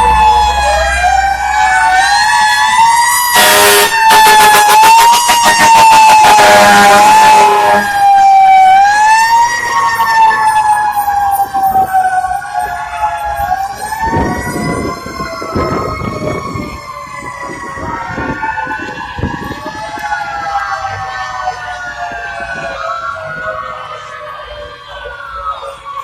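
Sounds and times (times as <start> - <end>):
fire truck sirens wailing: 0.0 - 26.0.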